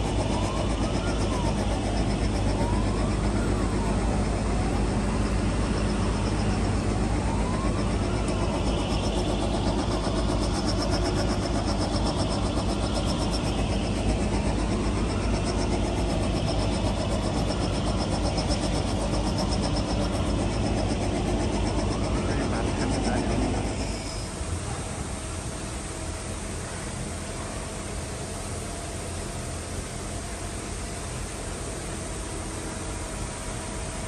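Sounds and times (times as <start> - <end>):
industrial machinery noise: 0.0 - 34.0.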